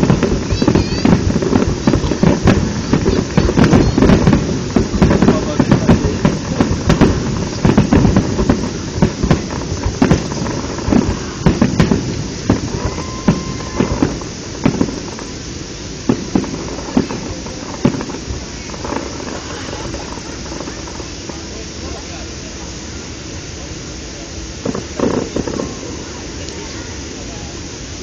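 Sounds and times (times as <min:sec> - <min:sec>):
firework shells bursting: 0:00.0 - 0:23.4, 0:24.4 - 0:27.2
continuous rumble: 0:00.0 - 0:28.0.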